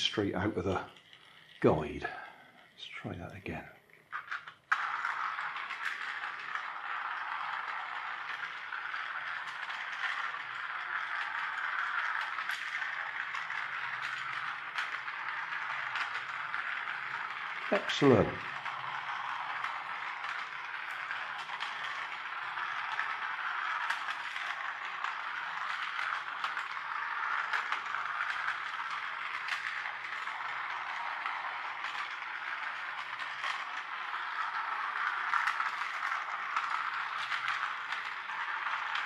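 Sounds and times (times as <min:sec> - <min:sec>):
toy motor and gears running: 0:00.0 - 0:39.0.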